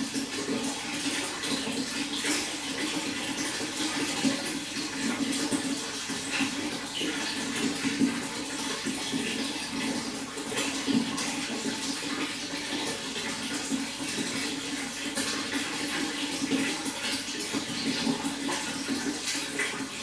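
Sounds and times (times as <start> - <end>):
running water splashing: 0.0 - 20.0.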